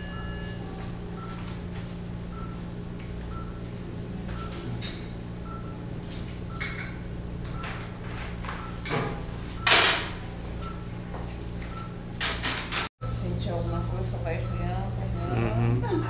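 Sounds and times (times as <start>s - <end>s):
patient monitor beeping: 0.0s - 1.6s, 2.3s - 8.8s, 9.5s - 10.9s, 11.6s - 12.0s, 13.0s - 16.0s
steady electrical hum: 0.0s - 16.0s.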